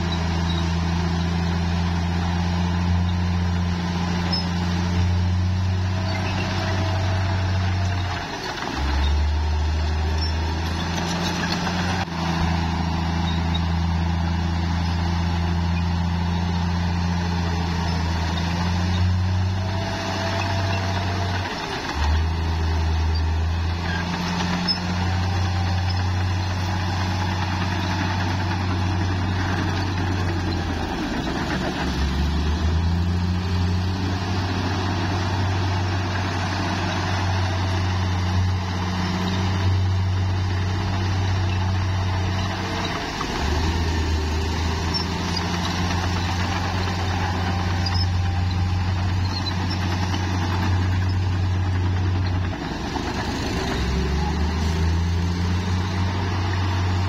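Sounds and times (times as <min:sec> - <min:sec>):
bulldozer diesel engine drone: 0:00.0 - 0:57.0.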